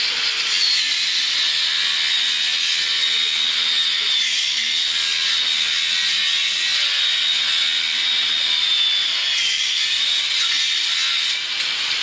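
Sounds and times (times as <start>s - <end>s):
power tool high whine: 0.0s - 12.0s.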